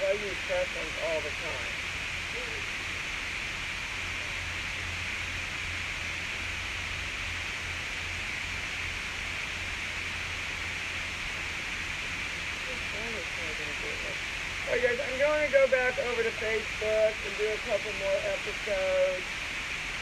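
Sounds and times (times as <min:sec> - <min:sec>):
background hiss: 0:00.0 - 0:20.0
low hum: 0:00.0 - 0:20.0.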